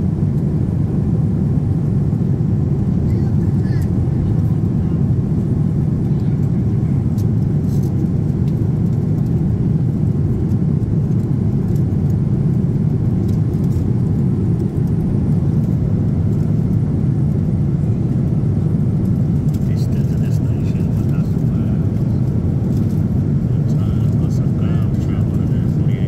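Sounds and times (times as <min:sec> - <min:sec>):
airliner cabin rumble: 0:00.0 - 0:26.0.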